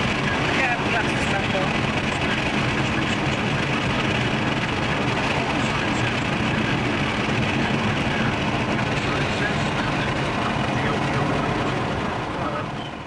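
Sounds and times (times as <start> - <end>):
car interior road and engine noise: 0.0 - 13.0.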